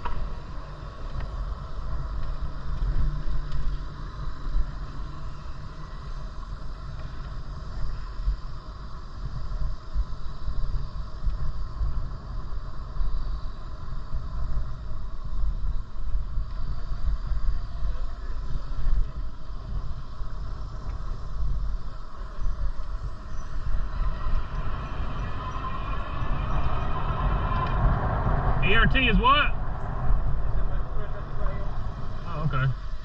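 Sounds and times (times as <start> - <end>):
bicycle road noise: 0.0 - 33.0
wind buffeting microphone: 0.0 - 33.0.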